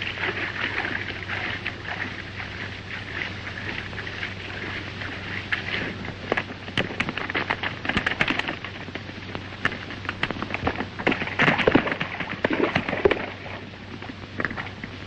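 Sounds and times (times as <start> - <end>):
horses galloping: 0.0 - 14.8
film soundtrack hiss and hum: 0.0 - 15.0.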